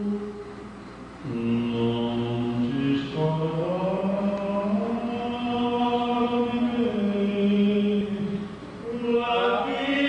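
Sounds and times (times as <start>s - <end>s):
man singing into a microphone: 1.2s - 10.0s.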